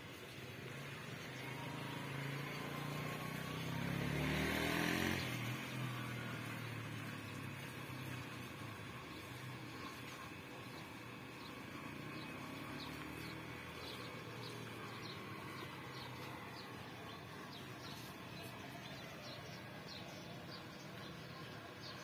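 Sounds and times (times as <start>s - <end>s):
passing vehicle engine hum: 0.0s - 22.0s.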